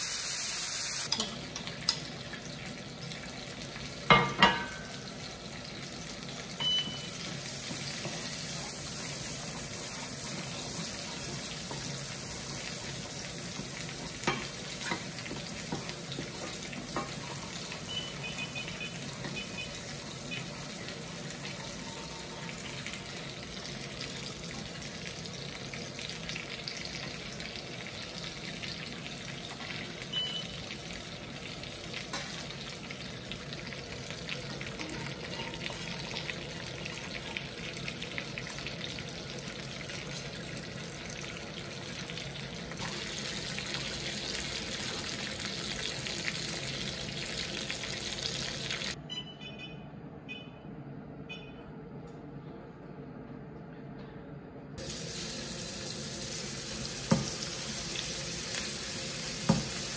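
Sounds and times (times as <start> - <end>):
food sizzling in a pan: 0.0 - 49.0, 54.8 - 59.9.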